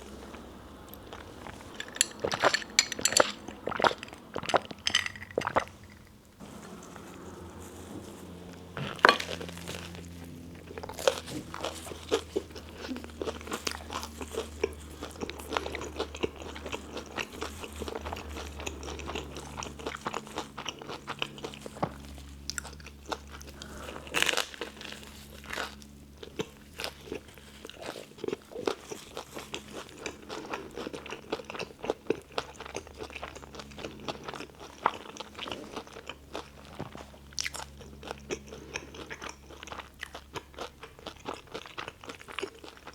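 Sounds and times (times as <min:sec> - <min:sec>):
chewing crunchy sandwich: 0:00.0 - 0:42.9.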